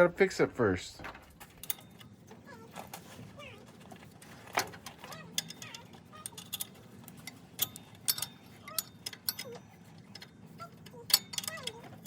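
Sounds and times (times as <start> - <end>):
hand tools clinking: 1.4 - 12.0.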